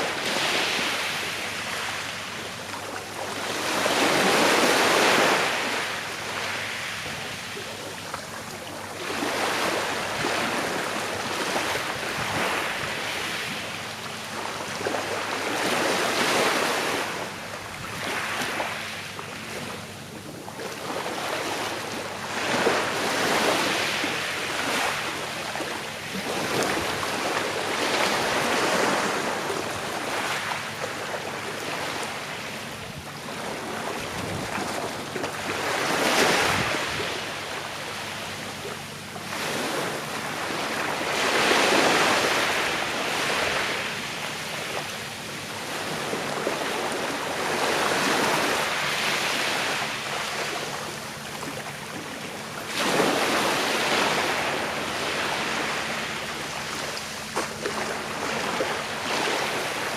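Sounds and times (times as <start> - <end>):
small waves lapping on shore: 0.0 - 59.9.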